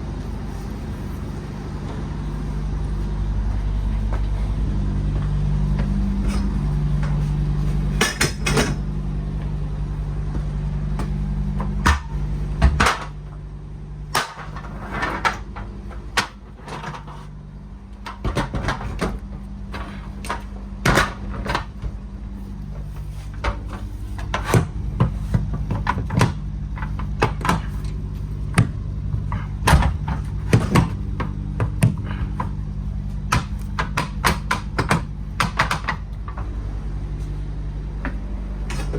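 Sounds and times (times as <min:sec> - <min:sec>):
low engine hum: 0:00.0 - 0:38.9.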